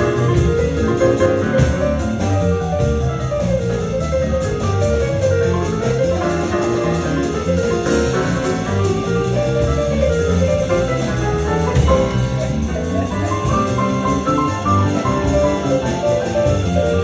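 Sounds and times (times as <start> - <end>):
drums: 0.0 - 17.0
jazz band playing live: 0.0 - 17.0
moving bass line: 0.0 - 17.0.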